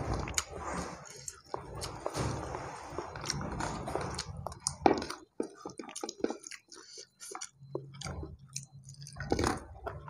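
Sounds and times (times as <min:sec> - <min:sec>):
chewing with mouth clicks: 0:00.1 - 0:02.1, 0:03.0 - 0:10.0.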